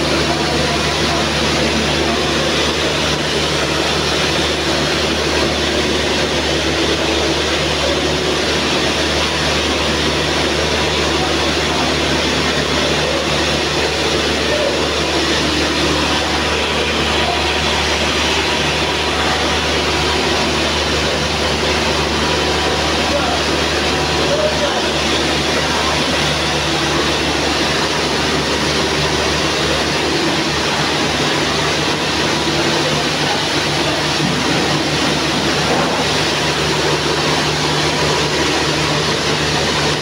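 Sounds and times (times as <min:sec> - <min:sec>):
sewing machines running: 0:00.0 - 0:40.0.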